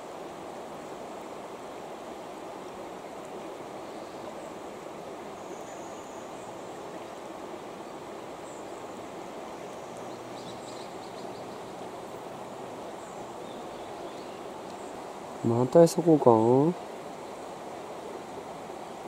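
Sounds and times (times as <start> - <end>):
river flowing over stones: 0.0 - 19.0.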